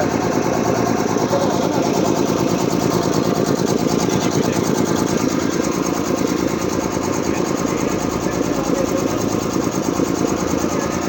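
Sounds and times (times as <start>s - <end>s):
air compressor chugging: 0.0s - 11.0s.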